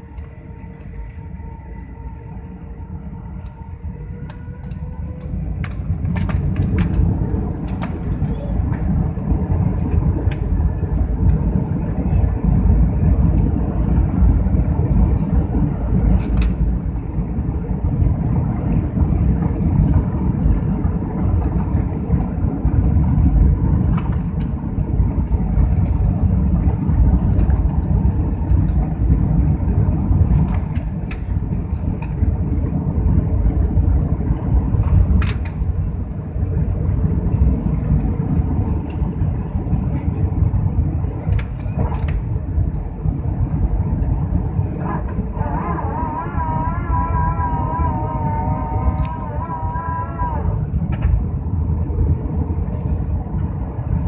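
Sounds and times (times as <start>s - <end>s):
jet airliner rumbling: 0.0s - 54.0s.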